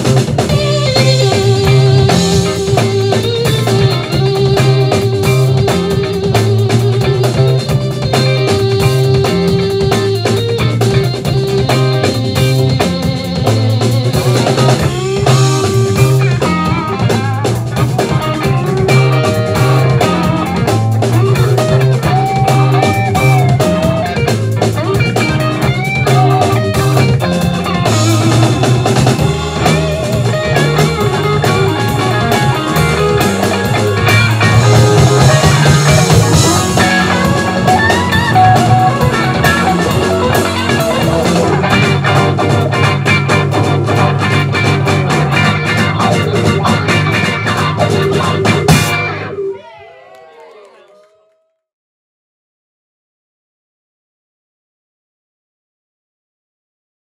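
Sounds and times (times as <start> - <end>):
electric guitar: 0.0 - 50.3
funk band playing: 0.0 - 50.5.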